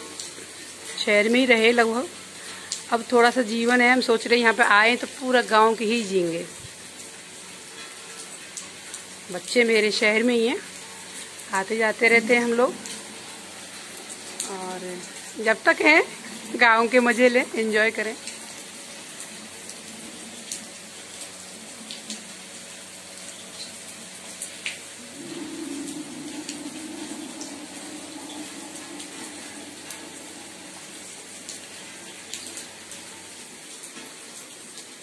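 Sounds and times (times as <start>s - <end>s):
rainwater running and trickling: 0.0s - 35.0s
sharp water drips: 0.0s - 35.0s.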